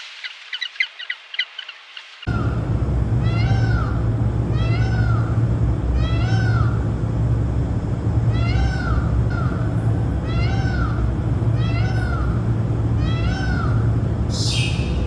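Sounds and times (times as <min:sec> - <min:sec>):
animal calling: 0:00.2 - 0:07.0, 0:08.2 - 0:15.0
low hum: 0:02.3 - 0:15.0.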